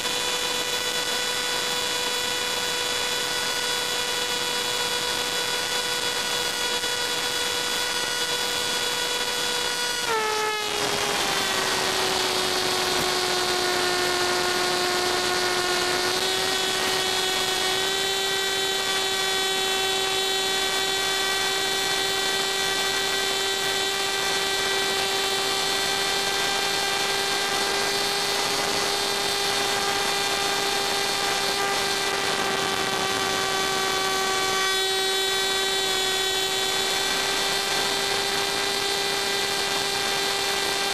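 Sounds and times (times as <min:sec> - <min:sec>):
electric whine: 0:00.0 - 0:40.9.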